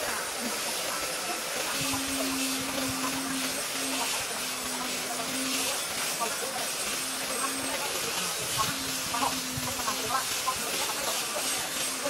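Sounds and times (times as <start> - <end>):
sander hissing on wood: 0.0 - 12.0
motor hum: 1.4 - 12.0.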